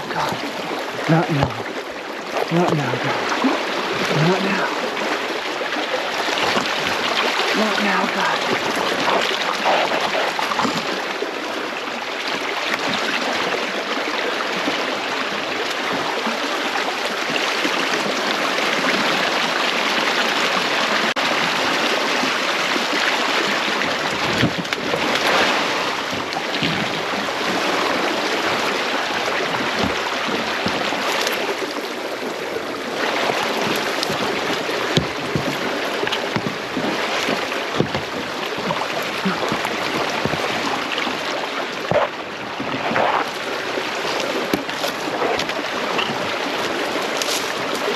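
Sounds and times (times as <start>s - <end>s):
river current rushing and splashing: 0.0s - 47.9s.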